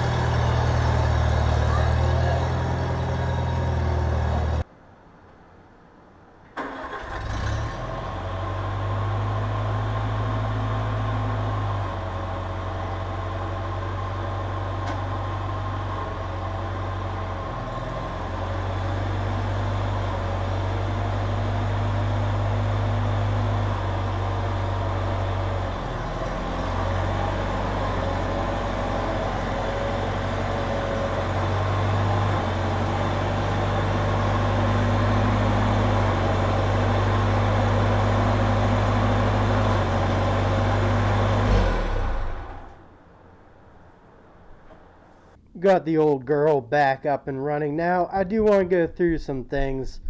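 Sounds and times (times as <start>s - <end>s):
tractor engine running: 0.0s - 4.6s, 6.6s - 45.4s.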